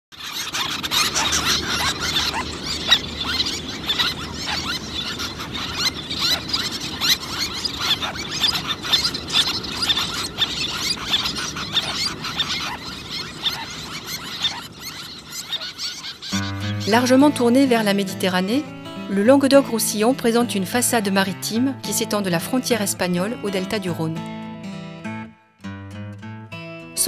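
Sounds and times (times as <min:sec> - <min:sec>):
terns calling: 0:00.1 - 0:24.6.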